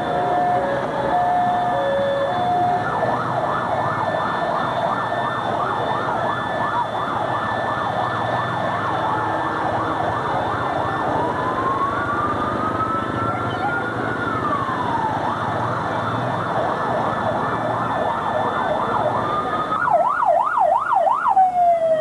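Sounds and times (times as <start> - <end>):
electronic siren: 0.0 - 22.0.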